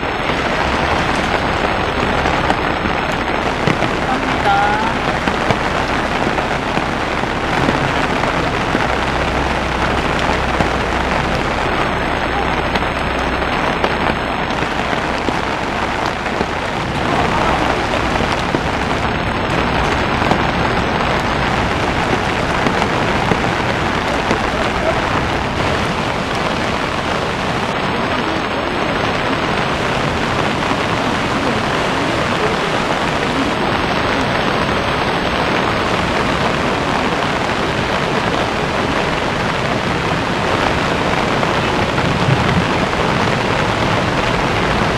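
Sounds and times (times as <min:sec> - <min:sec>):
heavy downpour: 0:00.0 - 0:44.9
rushing floodwater: 0:00.0 - 0:44.9.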